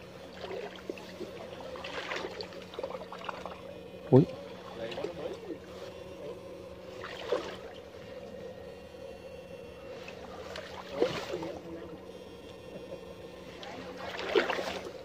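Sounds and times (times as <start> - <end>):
water splashing and sloshing: 0.0 - 9.1, 9.7 - 15.0
faint steady hum: 0.0 - 15.0.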